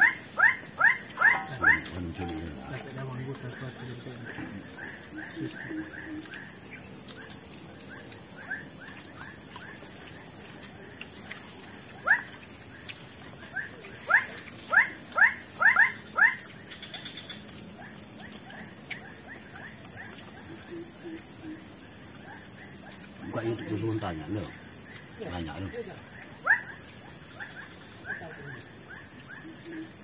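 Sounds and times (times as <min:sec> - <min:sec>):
animal chirping calls: 0:00.0 - 0:30.0
insects buzzing: 0:00.0 - 0:30.0.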